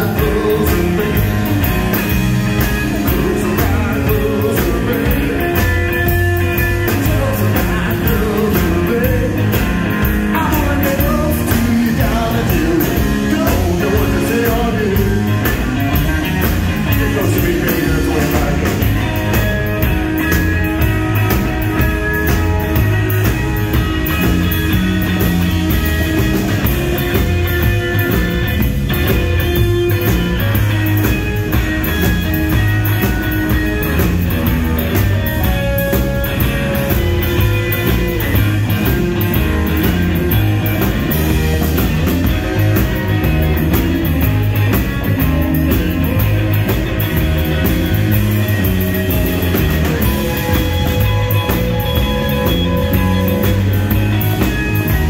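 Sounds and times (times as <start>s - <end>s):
drum kit beat: 0.0s - 55.0s
electric bass: 0.0s - 55.0s
electric guitar: 0.0s - 55.0s.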